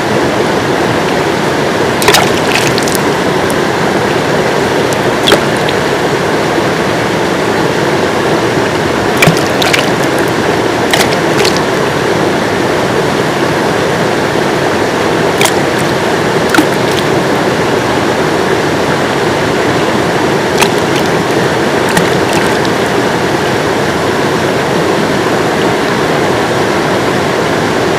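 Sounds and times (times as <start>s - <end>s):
river water rushing over stones: 0.0s - 27.9s.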